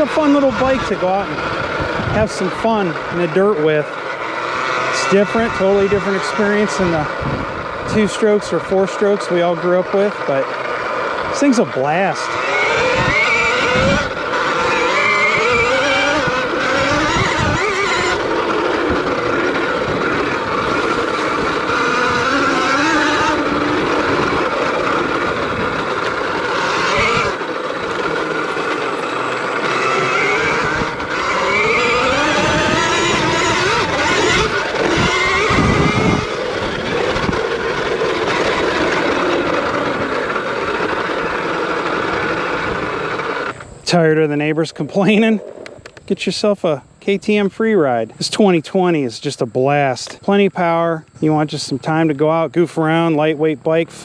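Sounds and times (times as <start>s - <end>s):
electric motor whining: 0.0s - 46.1s
steady rushing noise: 0.0s - 48.6s.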